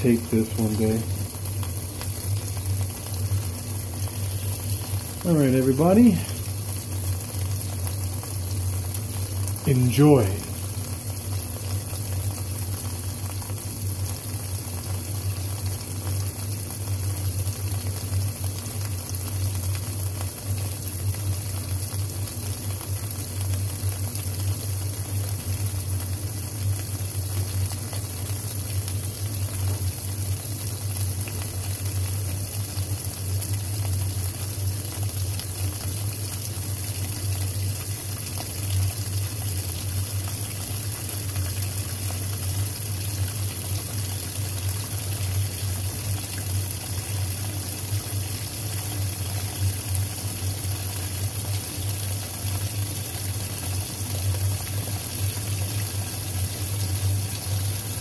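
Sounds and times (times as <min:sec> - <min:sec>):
washing machine low hum: 0:00.0 - 0:58.0.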